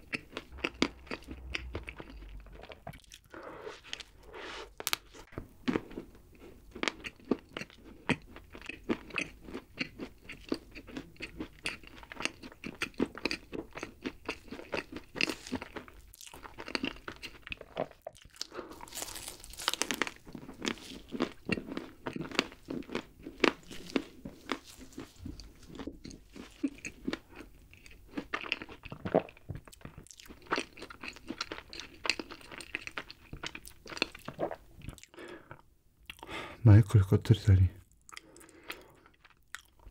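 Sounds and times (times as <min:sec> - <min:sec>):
close-miked chewing: 0:00.0 - 0:36.3, 0:38.0 - 0:39.9.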